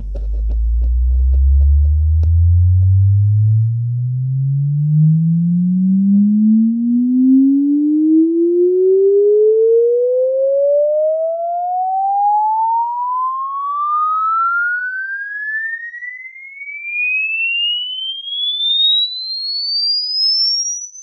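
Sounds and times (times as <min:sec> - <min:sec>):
rising sine tone through loudspeaker: 0:00.0 - 0:21.0.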